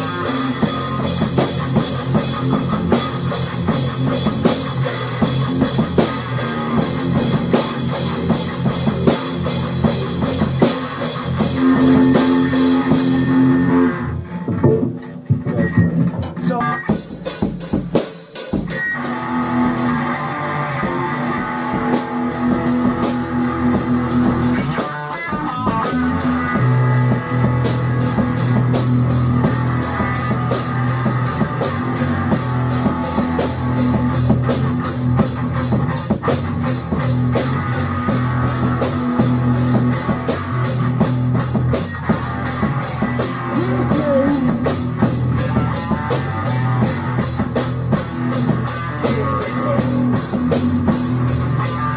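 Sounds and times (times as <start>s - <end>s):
rock music with drums and guitar: 0.0s - 51.9s.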